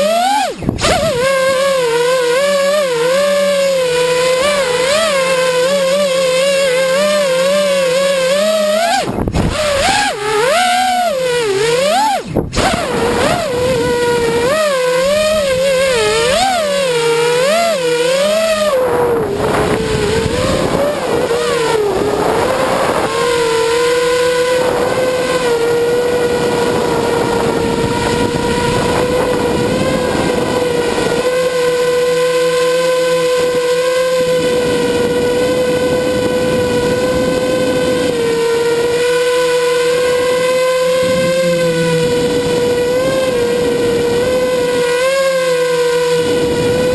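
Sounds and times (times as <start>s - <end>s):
quadcopter motors whining: 0.0s - 46.9s.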